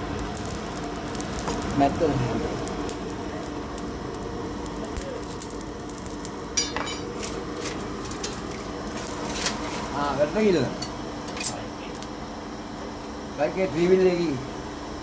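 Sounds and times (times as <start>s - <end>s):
electric ventilator blowing air: 0.0s - 15.0s.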